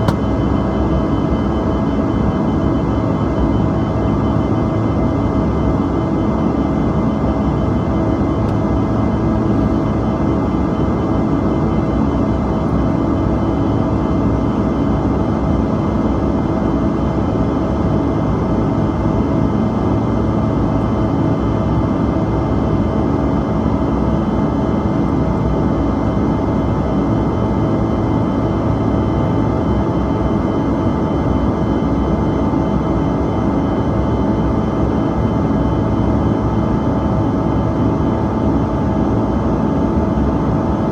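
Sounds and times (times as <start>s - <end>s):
jet cabin engine drone: 0.0s - 40.9s.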